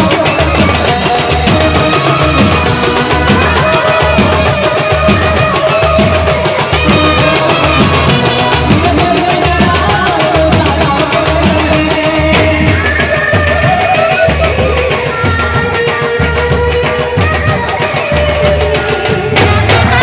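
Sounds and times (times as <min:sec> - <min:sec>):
banjo band melody: 0:00.0 - 0:20.0
steady drum beat: 0:00.0 - 0:20.0.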